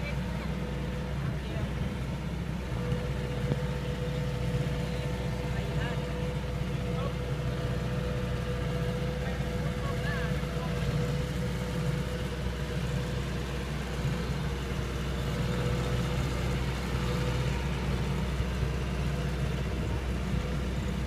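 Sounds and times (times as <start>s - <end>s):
combine harvester diesel engine drone: 0.0s - 21.0s.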